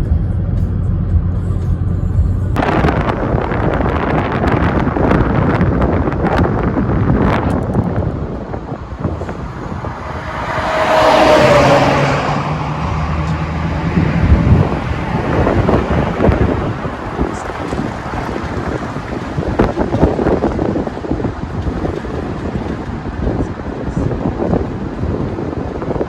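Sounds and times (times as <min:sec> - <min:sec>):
low vehicle engine hum: 0:00.0 - 0:26.0
wind buffeting microphone: 0:02.2 - 0:26.0.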